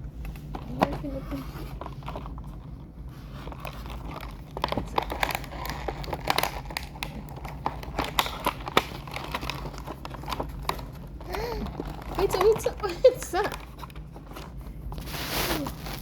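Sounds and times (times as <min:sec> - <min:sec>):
packaging crinkling and rustling: 0:00.2 - 0:16.0.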